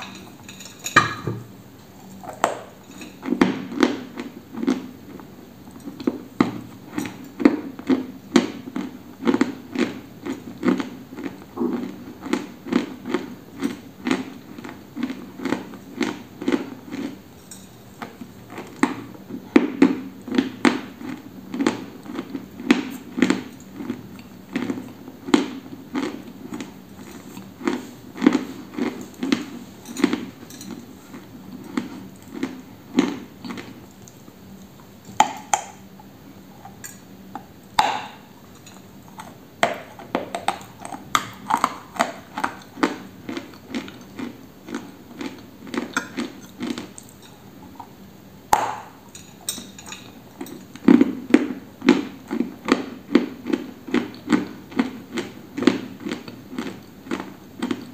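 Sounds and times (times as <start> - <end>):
crunchy chewing: 2.0 - 57.9.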